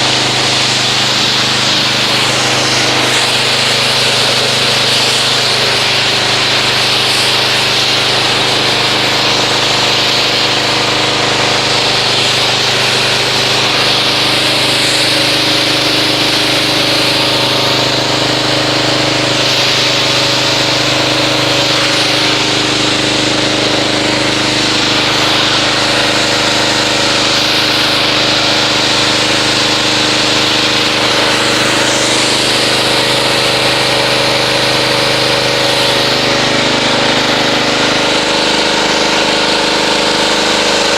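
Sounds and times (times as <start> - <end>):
pressure washer water jet hissing: 0.0 - 40.9.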